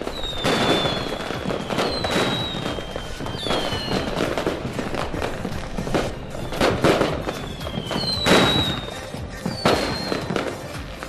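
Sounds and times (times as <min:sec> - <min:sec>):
firework shells bursting: 0:00.0 - 0:11.0
firework whistles: 0:00.0 - 0:11.0.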